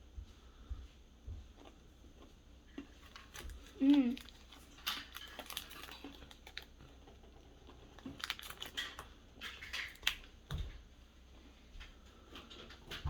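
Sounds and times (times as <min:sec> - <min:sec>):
biscuit crunching while chewing: 0:01.5 - 0:13.0.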